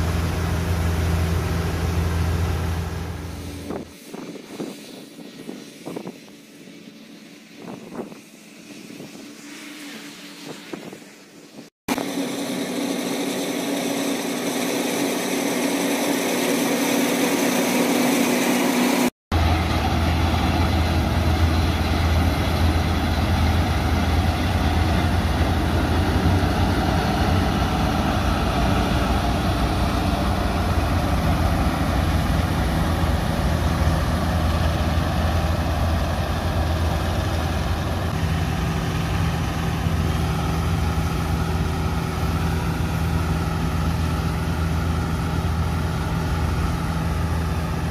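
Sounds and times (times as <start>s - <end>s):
combine harvester running: 0.0s - 10.6s, 11.9s - 47.9s.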